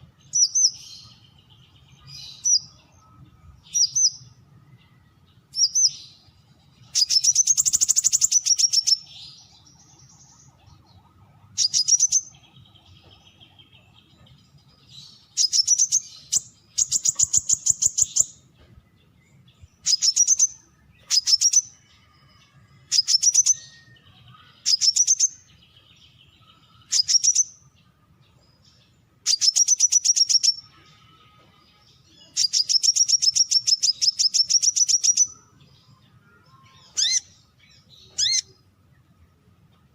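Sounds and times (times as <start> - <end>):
sunbird high-pitched trills: 0.0 - 11.0, 11.6 - 38.7.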